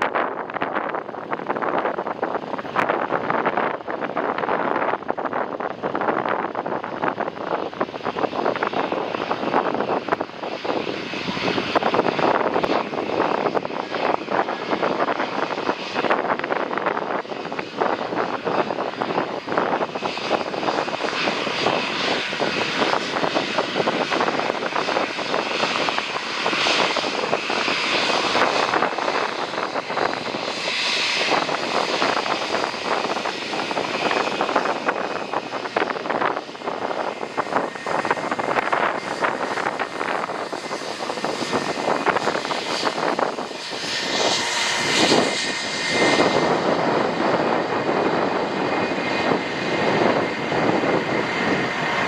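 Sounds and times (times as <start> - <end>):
high jet engine whine: 0.0 - 52.0
jet engines roaring: 0.0 - 52.0.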